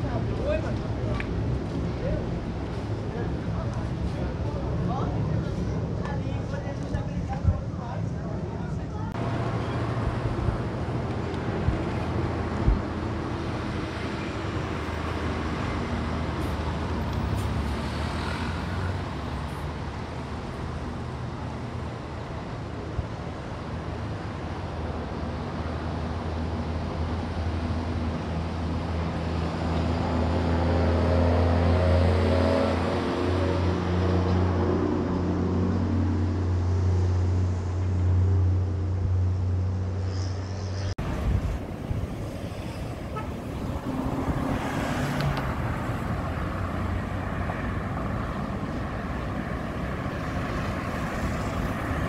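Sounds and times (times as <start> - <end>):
heavy vehicle engine hum: 0.0 - 52.0
rush of passing cars: 0.0 - 52.0.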